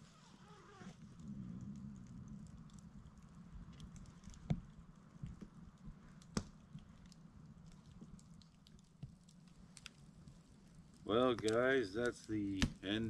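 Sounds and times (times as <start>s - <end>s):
campfire crackling: 0.0s - 13.0s
low steady hum: 0.0s - 13.0s.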